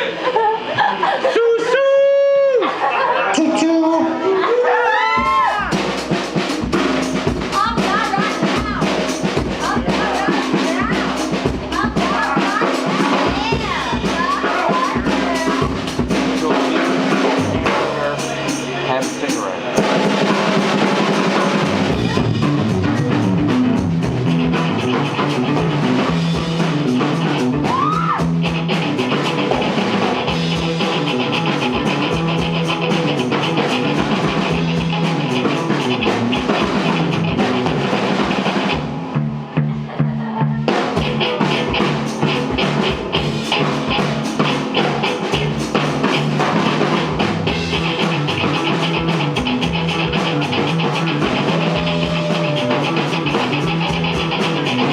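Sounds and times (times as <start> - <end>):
rock band playing instrumental: 4.9 - 39.8, 40.6 - 54.9.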